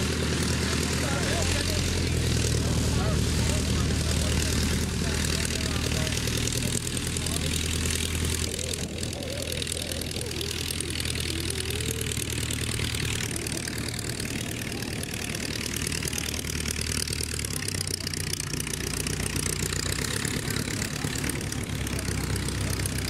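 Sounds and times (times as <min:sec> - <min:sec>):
propeller plane engine idling: 0:00.0 - 0:23.0.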